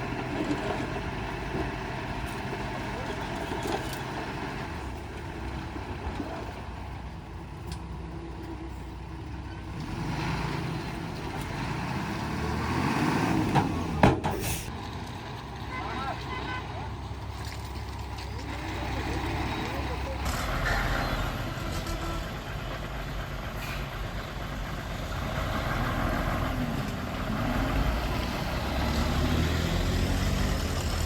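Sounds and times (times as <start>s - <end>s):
bulldozer diesel engine running: 0.0s - 12.8s, 13.4s - 31.0s.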